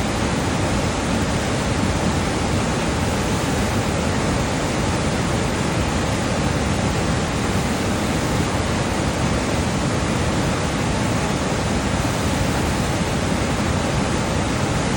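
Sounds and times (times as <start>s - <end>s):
whitewater rushing over boulders: 0.0s - 14.9s.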